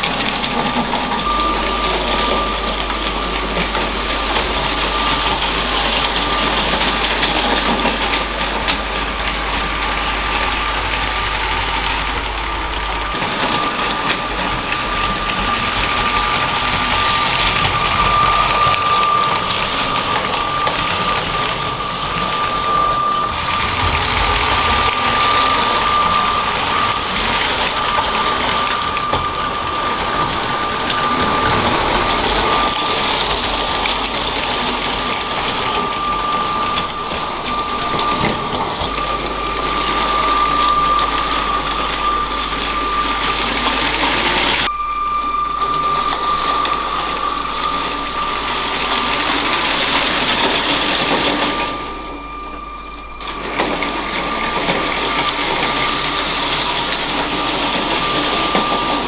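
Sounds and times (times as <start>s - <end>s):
plastic wheels rattling on track: 0.0s - 59.0s
small electric motor whine: 0.0s - 59.0s.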